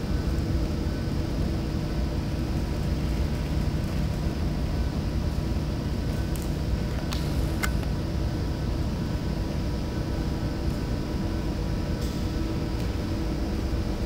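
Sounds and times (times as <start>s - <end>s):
faint steady hums: 0.0s - 14.0s.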